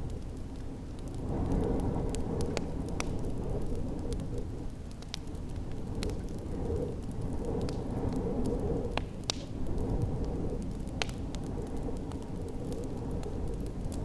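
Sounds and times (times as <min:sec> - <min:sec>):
storm wind rumbling: 0:00.0 - 0:14.0
wood fire crackling and popping: 0:00.0 - 0:14.0.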